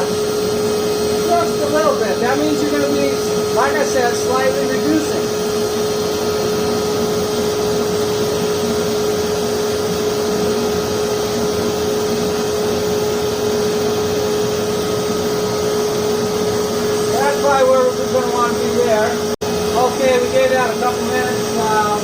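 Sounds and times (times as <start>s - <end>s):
blower motor whine: 0.0s - 22.0s.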